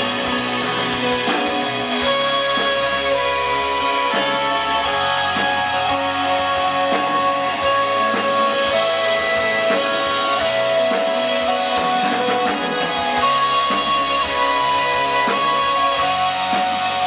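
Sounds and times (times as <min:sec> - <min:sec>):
guitar sustained lead notes: 0:00.0 - 0:17.0
steady drum beat: 0:00.0 - 0:17.0.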